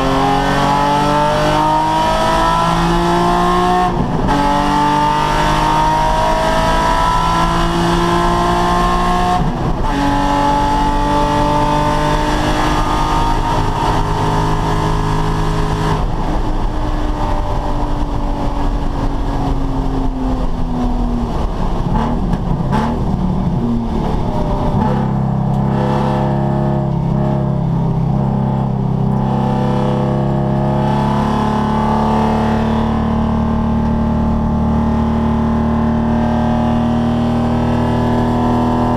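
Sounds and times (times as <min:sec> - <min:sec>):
car engine at full throttle: 0:00.0 - 0:38.9.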